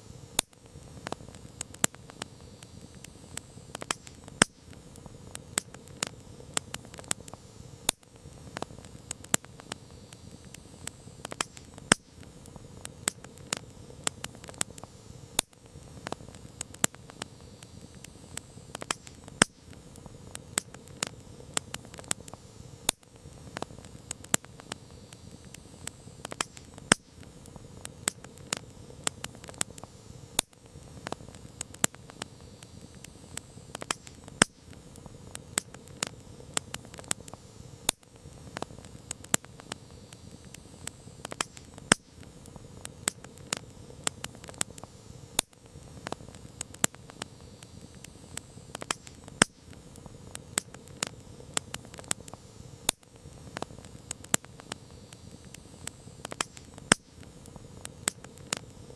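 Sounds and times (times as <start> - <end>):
low hiss of burning wood: 0.0 - 58.9
campfire pops and snaps: 0.3 - 58.9.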